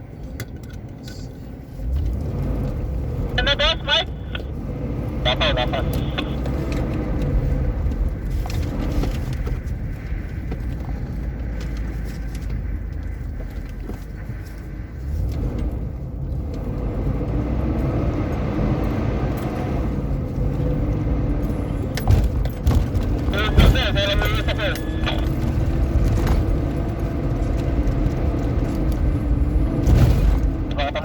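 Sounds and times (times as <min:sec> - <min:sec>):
vehicle engine and tyre rumble: 0:00.0 - 0:31.0.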